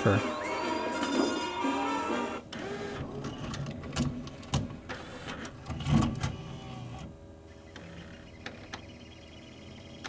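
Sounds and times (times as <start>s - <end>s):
mechanism whirring: 0.0s - 10.0s.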